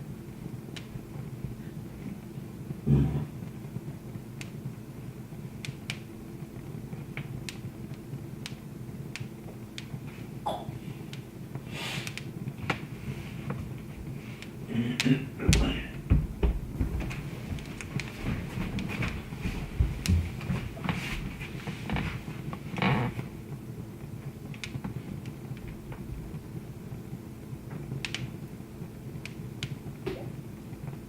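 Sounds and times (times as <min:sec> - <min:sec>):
low steady hum: 0:00.0 - 0:31.0
wood fire crackling and popping: 0:00.0 - 0:31.0.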